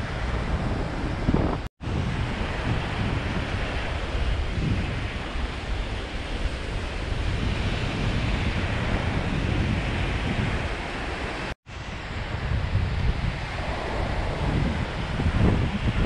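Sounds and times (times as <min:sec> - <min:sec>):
waves washing up a sandy beach: 0:00.0 - 0:16.0
wind buffeting the microphone: 0:00.0 - 0:16.0.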